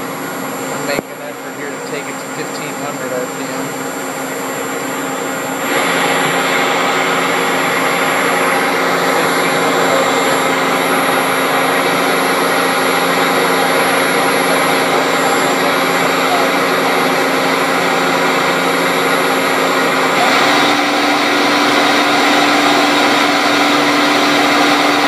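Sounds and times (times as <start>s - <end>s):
machine whine and hum: 0.0s - 25.0s.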